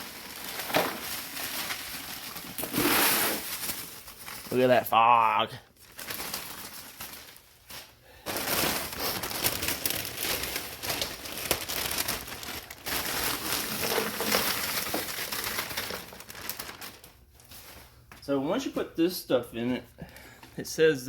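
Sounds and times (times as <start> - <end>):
plastic bag crinkling: 0.0 - 17.9.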